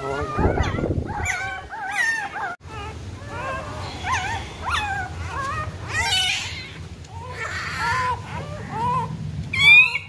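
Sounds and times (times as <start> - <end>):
puppies whimpering: 0.0 - 10.0.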